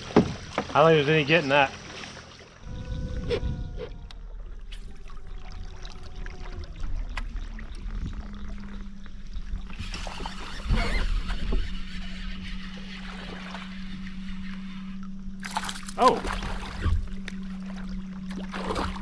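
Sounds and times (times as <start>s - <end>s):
water splashing: 0.0s - 19.0s
electric motor whine: 2.6s - 19.0s.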